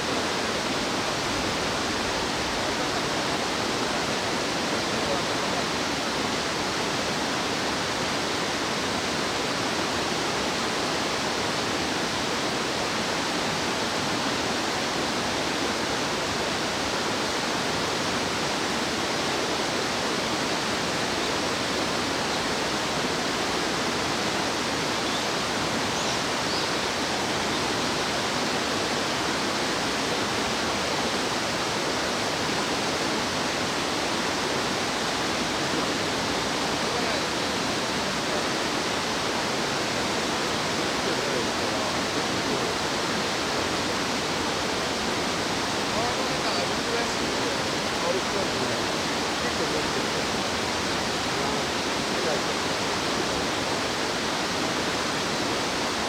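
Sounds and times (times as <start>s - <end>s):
rushing stream water: 0.0s - 56.0s.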